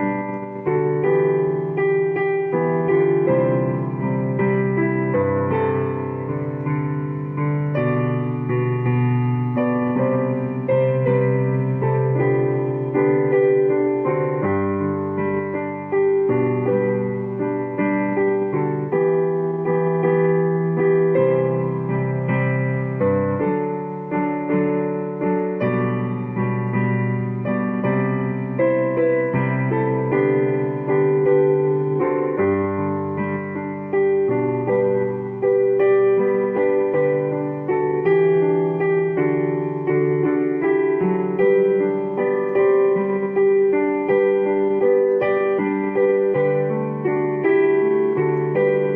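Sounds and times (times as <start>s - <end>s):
piano keyboard playing hymn chords: 0.0s - 48.9s.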